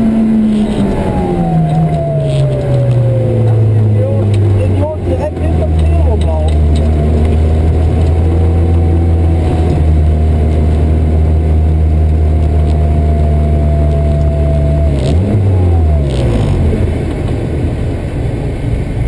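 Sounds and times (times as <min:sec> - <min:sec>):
car engine at high revs: 0:00.0 - 0:19.0
steady whine: 0:00.0 - 0:19.0.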